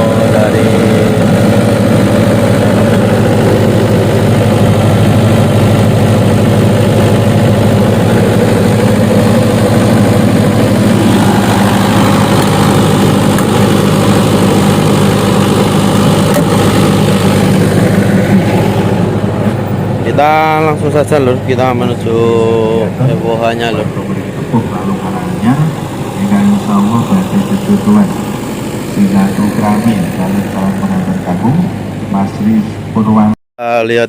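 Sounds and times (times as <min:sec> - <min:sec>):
generator engine humming: 0:00.0 - 0:34.0.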